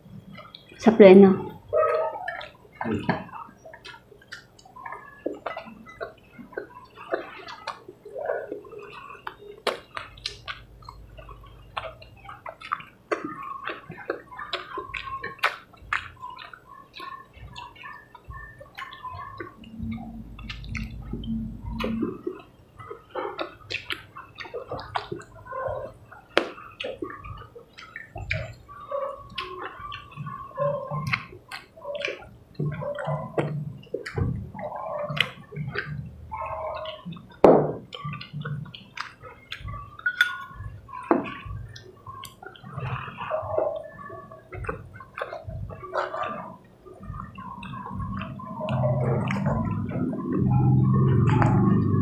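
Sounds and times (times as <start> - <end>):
wet chewing and lip-smacking: 0.1 - 0.8, 1.4 - 52.0.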